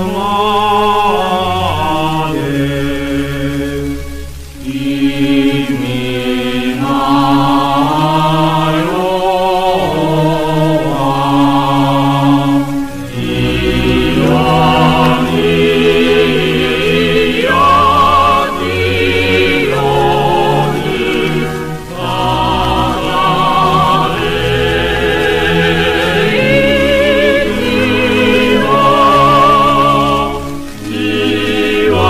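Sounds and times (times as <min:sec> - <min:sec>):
choir singing a solemn anthem: 0:00.0 - 0:32.0
low accompaniment: 0:00.0 - 0:32.0.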